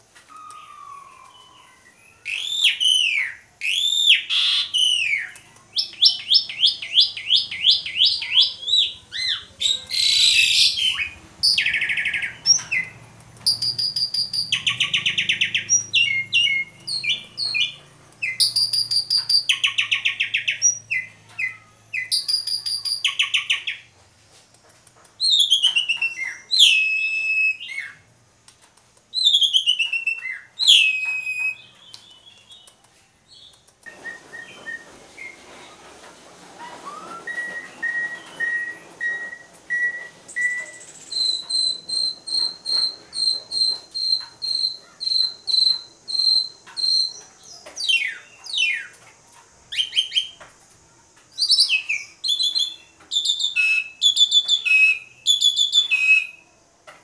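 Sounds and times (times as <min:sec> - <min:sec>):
starling singing: 0:00.3 - 0:23.9, 0:25.2 - 0:28.1, 0:29.1 - 0:35.8, 0:36.6 - 0:49.0, 0:51.4 - 0:56.4.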